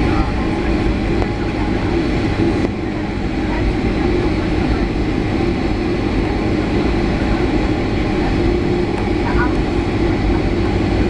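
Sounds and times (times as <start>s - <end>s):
engine hum: 0.0s - 11.0s
wheels rumbling and rattling: 0.0s - 11.0s.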